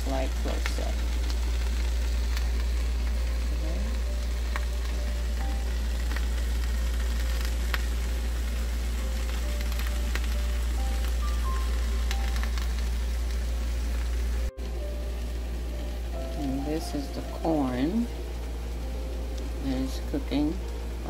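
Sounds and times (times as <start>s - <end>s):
low hum: 0.0s - 21.0s
vegetables sizzling in a frying pan: 0.0s - 21.0s.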